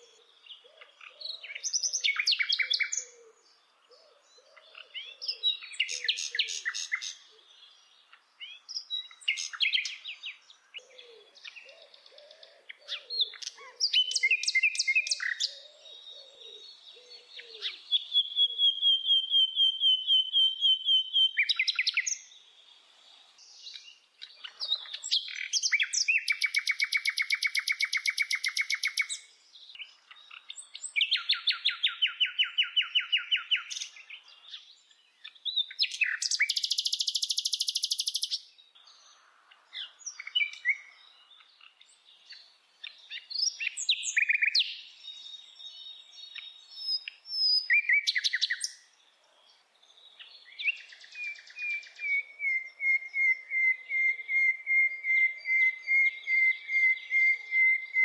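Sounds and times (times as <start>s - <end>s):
soft low bird calls: 0.0s - 58.0s
songbird singing trills: 0.0s - 58.0s.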